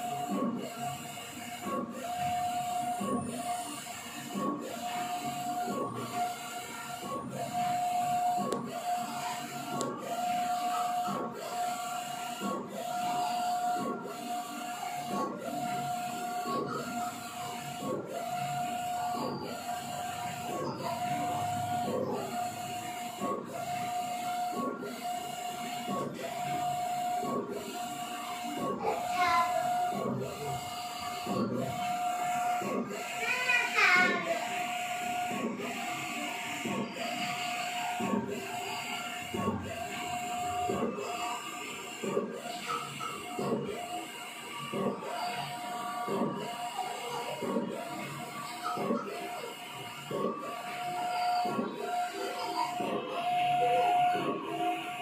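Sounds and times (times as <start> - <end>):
printer carriage whine: 0.0 - 55.0.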